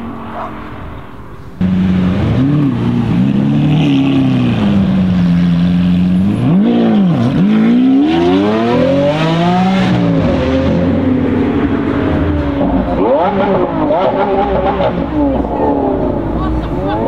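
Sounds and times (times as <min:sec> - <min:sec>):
car engine revving and accelerating: 0:00.0 - 0:17.0.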